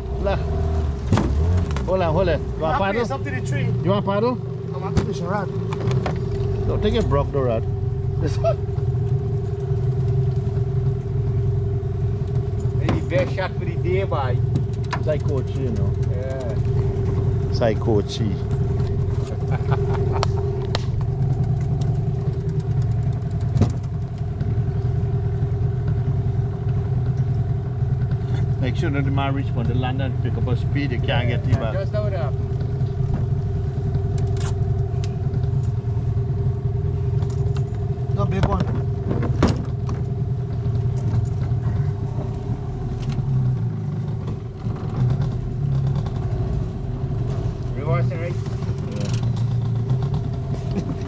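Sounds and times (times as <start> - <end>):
outboard motor running: 0.0 - 51.0.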